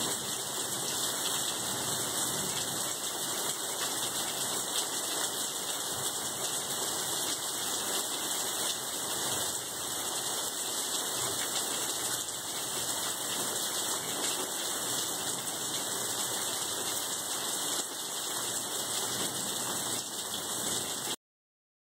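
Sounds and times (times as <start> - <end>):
heavy rain falling: 0.0 - 21.2.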